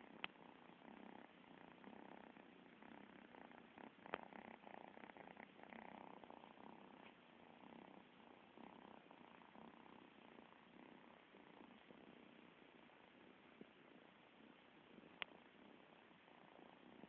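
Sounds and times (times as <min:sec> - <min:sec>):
kittens purring: 0:00.0 - 0:17.0.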